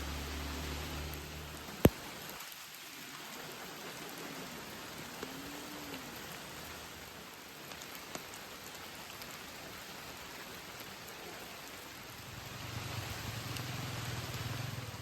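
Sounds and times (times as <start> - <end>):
rain drops ticking: 0.0 - 15.0
steady rain falling: 0.0 - 15.0.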